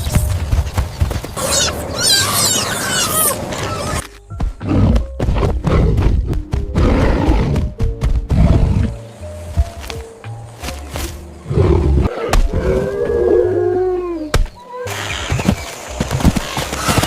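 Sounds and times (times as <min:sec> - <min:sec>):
dramatic background music: 0:03.0 - 0:17.0.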